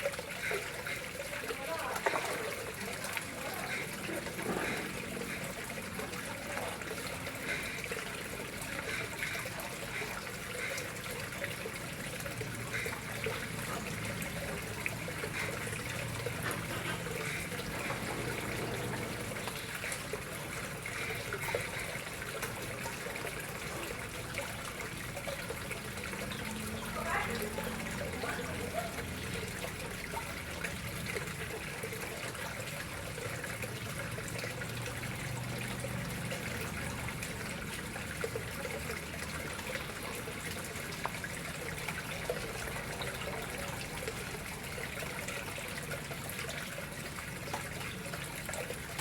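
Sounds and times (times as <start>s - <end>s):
water trickling into pond: 0.0s - 49.0s.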